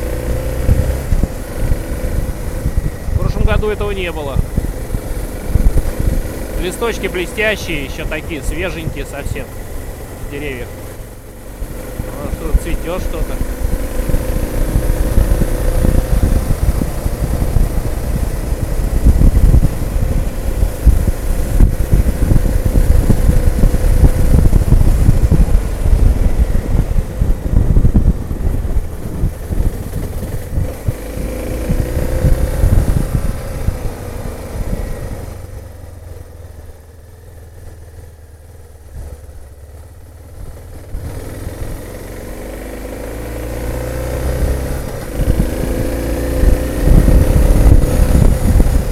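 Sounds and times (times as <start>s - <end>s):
wind buffeting microphone: 0.0s - 36.7s, 40.4s - 48.9s
motorcycle engine running: 0.0s - 48.9s.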